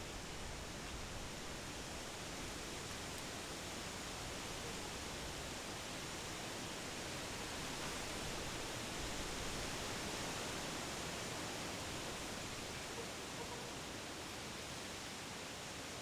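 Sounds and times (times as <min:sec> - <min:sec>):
wind rustling tree leaves: 0:00.0 - 0:15.8.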